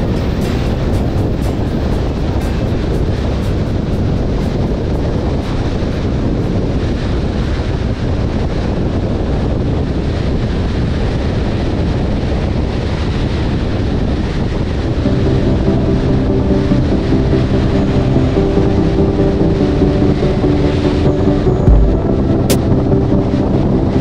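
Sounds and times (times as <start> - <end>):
car road and wind noise: 0.0 - 24.0.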